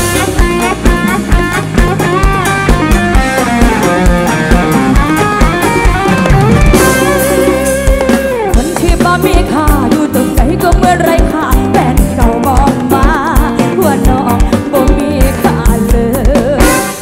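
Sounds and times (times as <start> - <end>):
bass: 0.0 - 17.0
drum kit: 0.0 - 17.0
plucked-string lead melody: 0.0 - 17.0.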